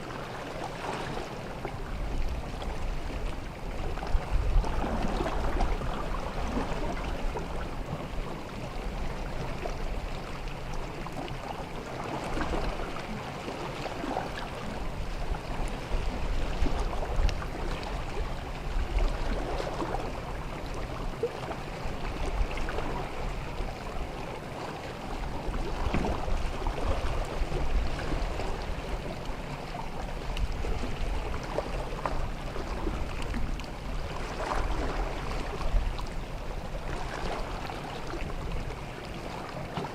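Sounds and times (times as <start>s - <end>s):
sea water lapping on beach: 0.0s - 39.9s.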